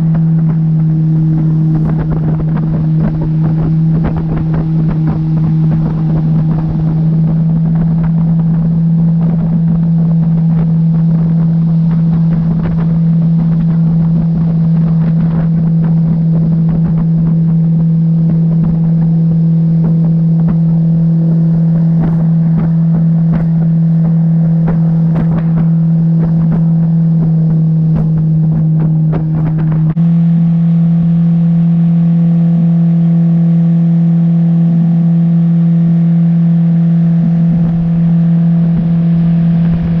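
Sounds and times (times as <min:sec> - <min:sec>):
wind noise on microphone: 0:00.0 - 0:30.4, 0:35.6 - 0:40.0
boat motor running: 0:00.0 - 0:40.0.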